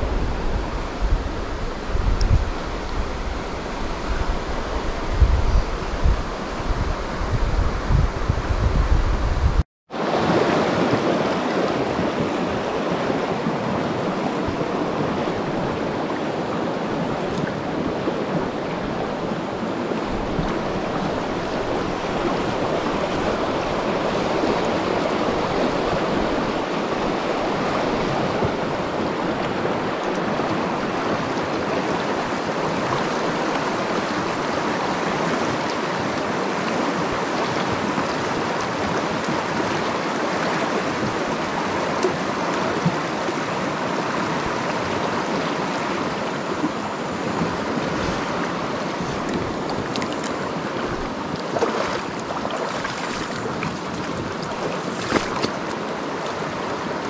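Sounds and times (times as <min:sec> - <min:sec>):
river water rushing: 0:00.0 - 0:07.9, 0:09.9 - 0:57.0.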